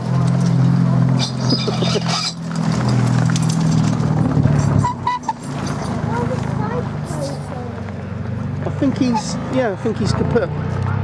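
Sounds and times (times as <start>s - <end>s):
tyres crunching on gravel: 0.0s - 10.9s
race car engine at low revs: 0.0s - 11.0s.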